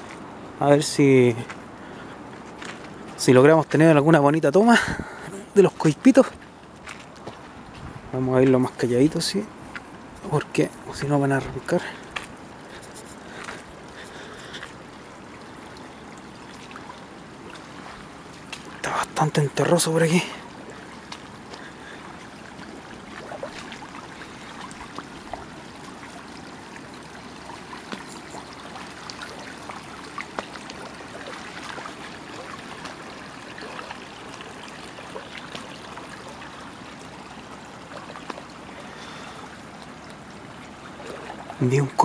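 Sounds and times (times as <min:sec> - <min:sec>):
creek water trickling: 0:00.0 - 0:42.0
small clicks and splashes: 0:01.4 - 0:03.2, 0:06.4 - 0:07.8, 0:11.0 - 0:42.0.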